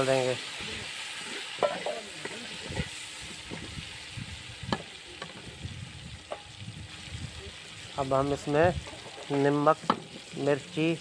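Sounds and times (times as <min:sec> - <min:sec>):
food sizzling in hot fat: 0:00.0 - 0:11.0.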